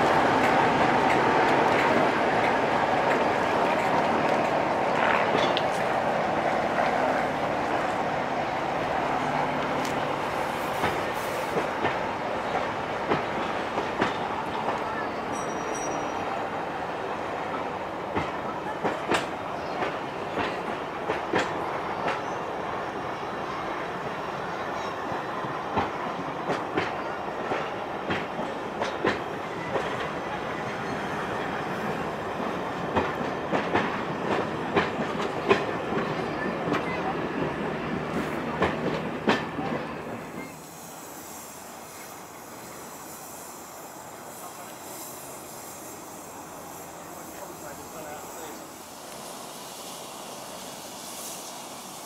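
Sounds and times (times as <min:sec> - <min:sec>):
train coaches rumbling past: 0:00.0 - 0:52.0.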